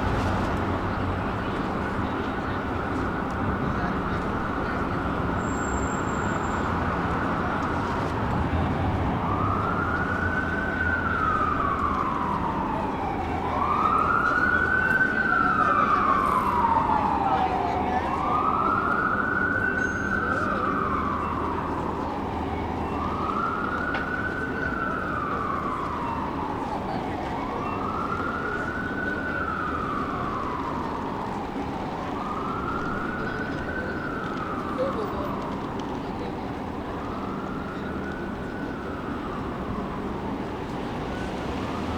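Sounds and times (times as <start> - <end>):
emergency siren wailing: 0.0 - 41.9
traffic noise: 0.0 - 41.9.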